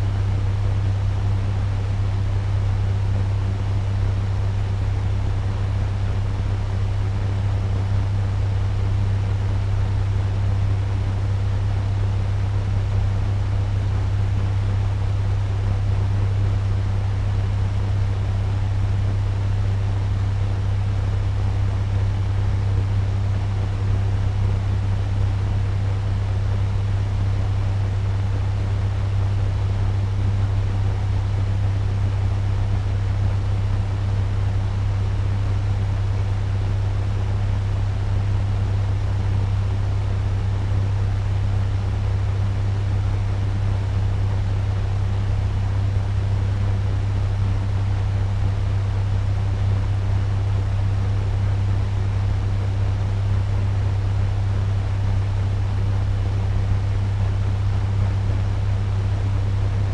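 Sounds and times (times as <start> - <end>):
fan low hum: 0.0 - 59.9.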